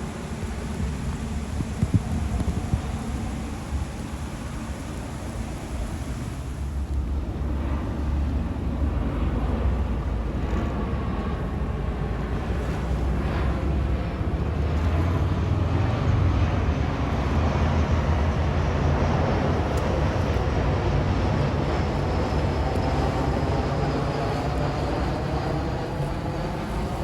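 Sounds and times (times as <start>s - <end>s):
jet airliner roaring overhead: 0.0s - 27.0s.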